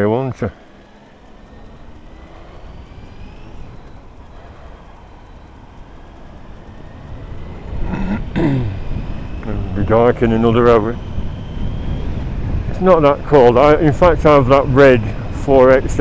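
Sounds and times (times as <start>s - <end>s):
vehicle engine noise: 0.0s - 16.0s.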